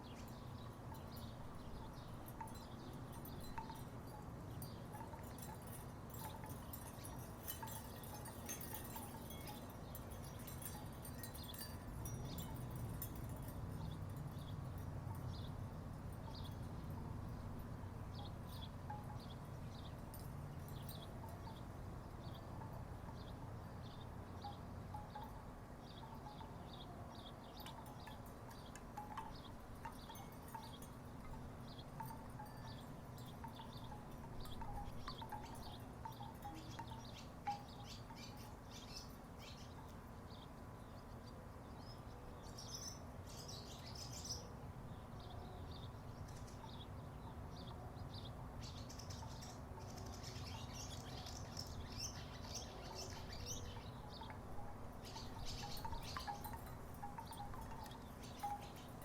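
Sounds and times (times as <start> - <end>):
wooden wind chimes clacking: 0.0 - 40.6, 48.6 - 59.0.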